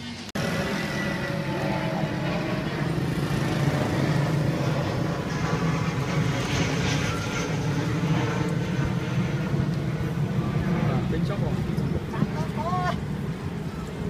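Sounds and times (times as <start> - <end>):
traffic engine hum: 0.0 - 14.0.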